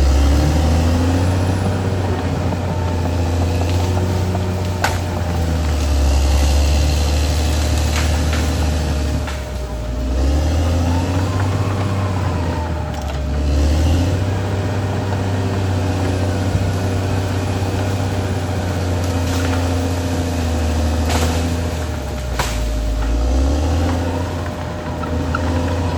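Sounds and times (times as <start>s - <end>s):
bulldozer diesel engine droning: 0.0s - 25.9s.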